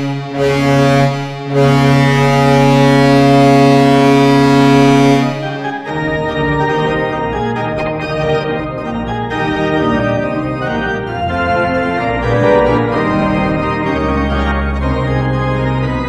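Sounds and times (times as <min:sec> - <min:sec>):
arena organ playing chords: 0:00.0 - 0:16.0.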